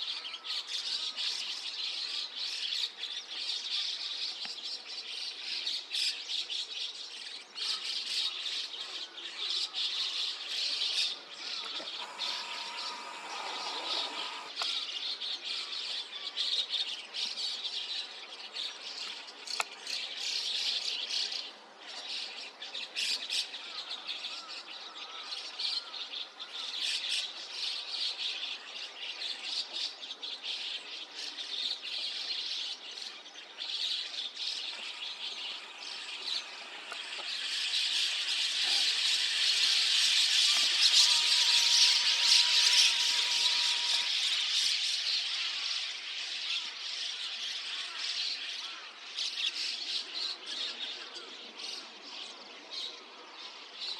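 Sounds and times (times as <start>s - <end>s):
starlings chattering and squawking: 0.0s - 53.9s.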